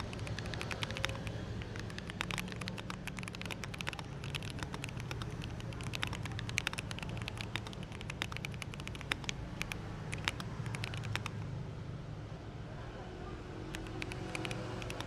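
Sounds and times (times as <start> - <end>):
keyboard key clicks: 0.0 - 11.5, 13.7 - 15.0.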